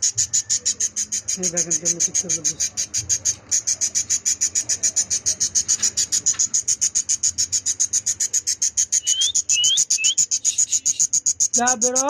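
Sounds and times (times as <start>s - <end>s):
budgerigar harsh high calls: 0.0s - 12.0s.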